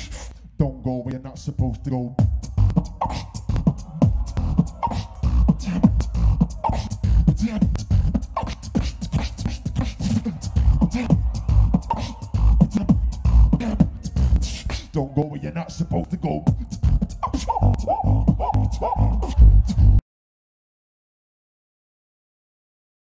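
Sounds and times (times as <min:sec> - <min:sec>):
beatboxing through microphone: 0:00.0 - 0:20.0.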